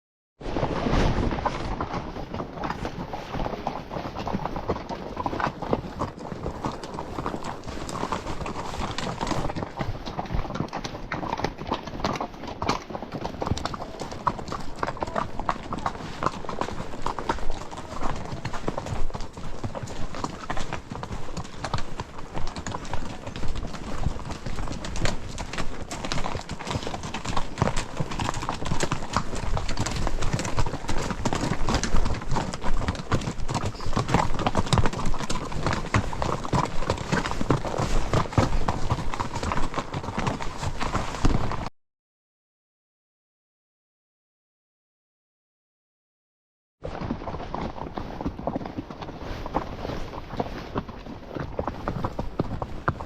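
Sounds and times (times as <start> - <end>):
horse hooves clip-clopping: 1.0 - 41.7, 46.8 - 53.0.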